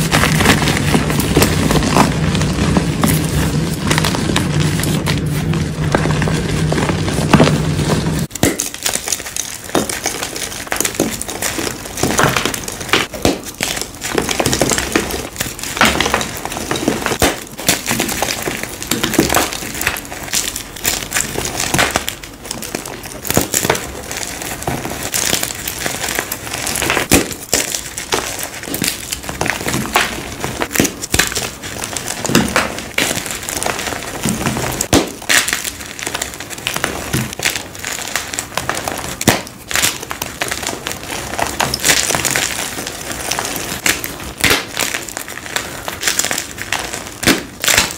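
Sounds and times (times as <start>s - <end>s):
chalk pieces snapping: 0.0s - 47.9s.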